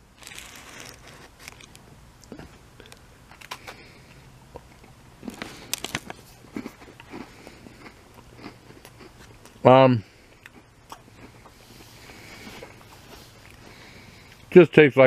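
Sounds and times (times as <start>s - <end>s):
cookie crunching while chewed: 0.1s - 14.5s.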